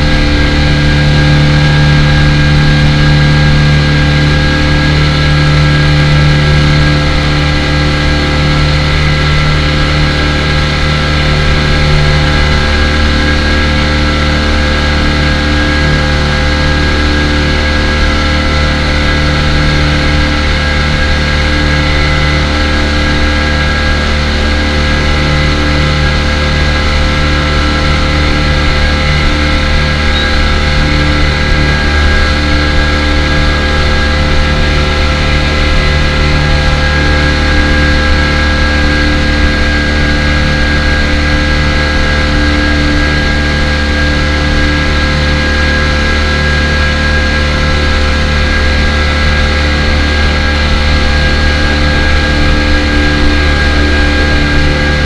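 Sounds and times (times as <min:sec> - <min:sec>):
speedboat engine running: 0:00.0 - 0:55.0.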